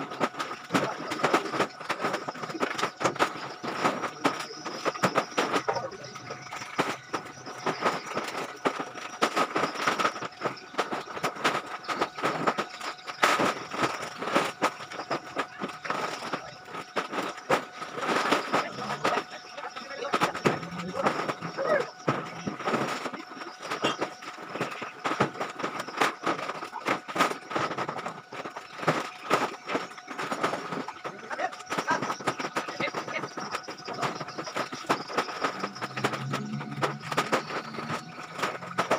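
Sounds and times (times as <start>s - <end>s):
plastic sacks knocking and crackling: 0.0s - 38.9s.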